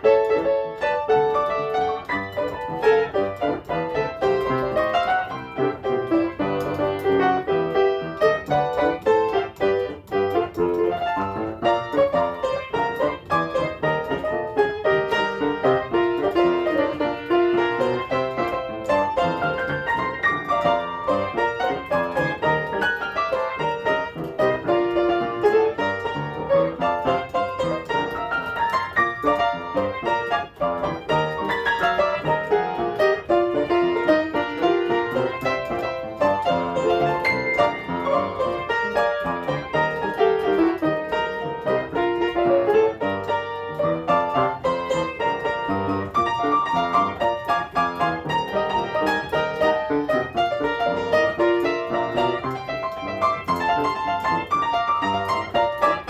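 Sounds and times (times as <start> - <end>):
solo piano gospel tune: 0.0 - 56.0.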